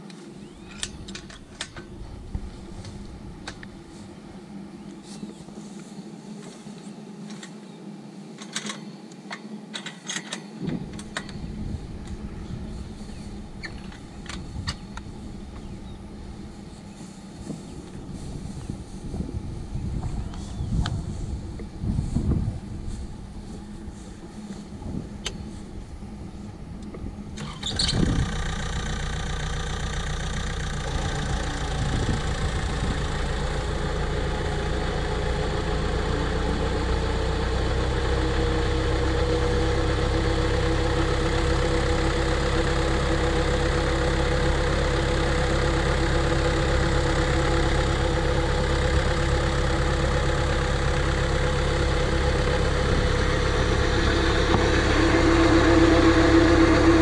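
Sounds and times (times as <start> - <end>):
tractor engine running: 0.0 - 6.0, 10.7 - 57.0.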